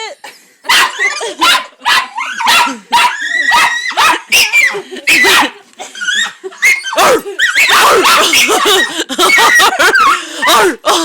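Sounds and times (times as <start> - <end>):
dog barking and yipping: 0.7 - 10.2.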